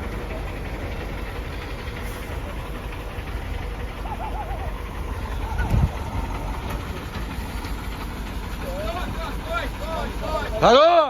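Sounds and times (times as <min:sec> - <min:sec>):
car cabin rumble: 0:00.0 - 0:10.7.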